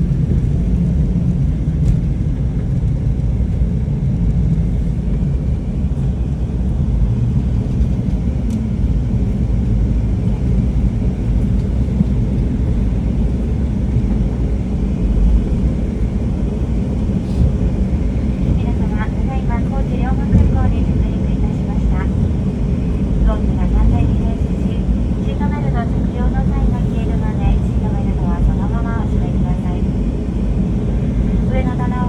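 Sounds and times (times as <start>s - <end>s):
jet airliner low rumble: 0.0s - 32.0s.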